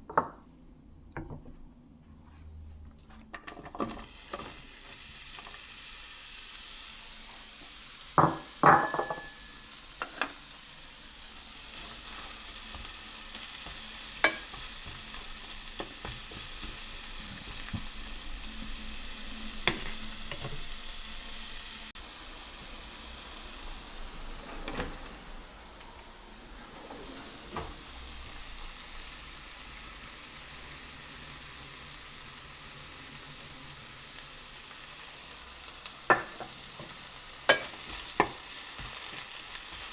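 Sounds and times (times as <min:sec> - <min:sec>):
food sizzling in a frying pan: 0:03.8 - 0:39.9.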